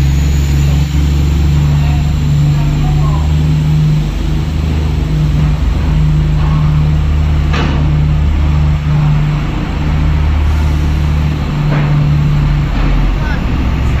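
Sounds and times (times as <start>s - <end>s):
heavy engine humming: 0.0s - 14.0s.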